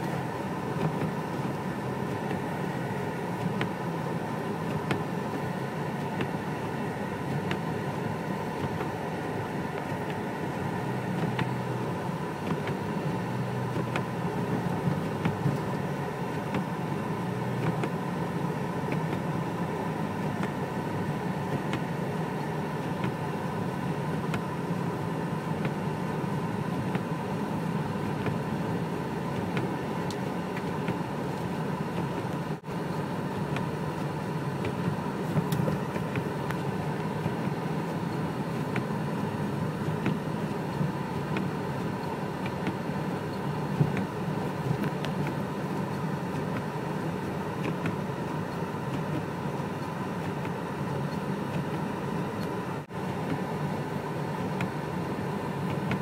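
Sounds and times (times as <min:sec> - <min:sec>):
car cabin engine and tyre drone: 0:00.0 - 0:56.0.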